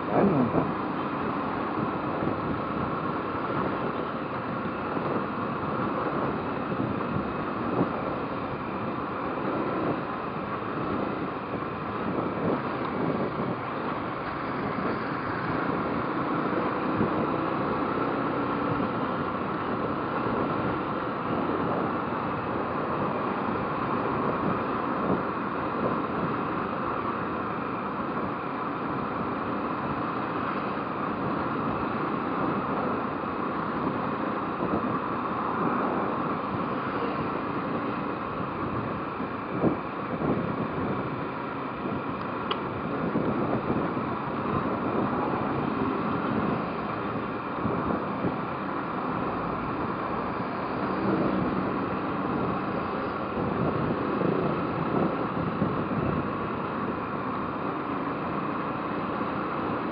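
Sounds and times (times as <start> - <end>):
road noise: 0.0 - 59.9
wind rushing over microphone: 0.0 - 59.9.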